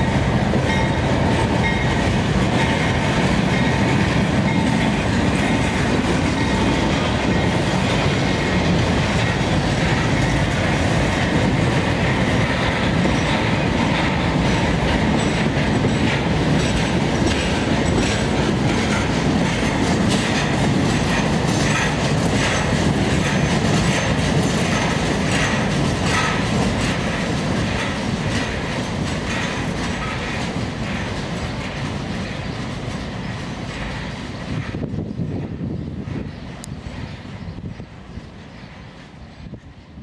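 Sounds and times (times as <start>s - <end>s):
steel wheels clicking over rail joints: 0.0s - 39.6s.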